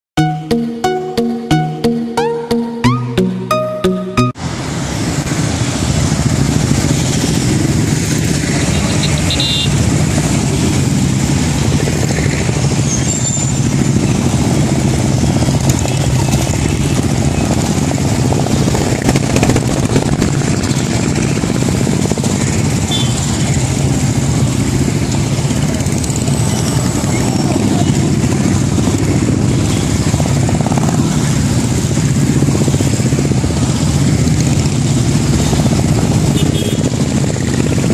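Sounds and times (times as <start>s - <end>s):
motorcycles riding past: 4.5s - 37.9s.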